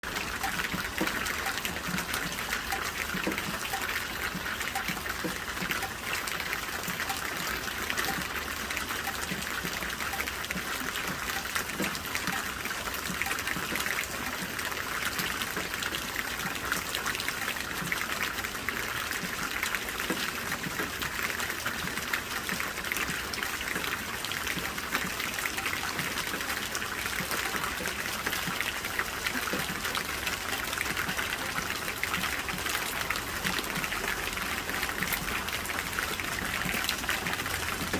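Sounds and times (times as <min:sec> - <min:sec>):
steady rainfall: 0:00.0 - 0:37.9.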